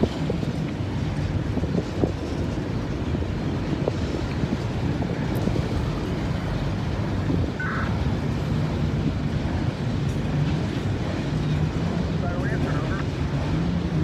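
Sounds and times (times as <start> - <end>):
train wheels rumbling on rail: 0.0 - 12.2.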